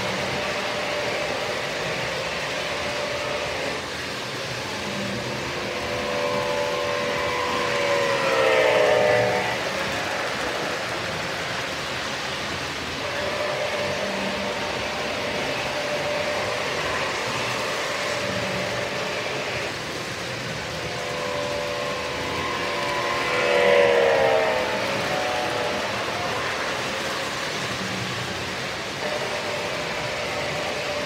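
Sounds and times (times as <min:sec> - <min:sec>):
model train horn: 0:00.0 - 0:31.0
model train motors whirring: 0:00.0 - 0:31.0.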